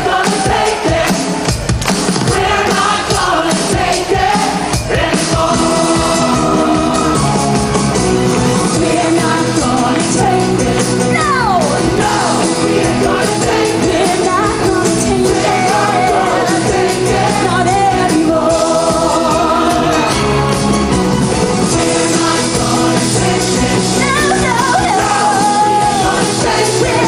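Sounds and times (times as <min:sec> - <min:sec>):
live rock band playing: 0:00.4 - 0:27.0.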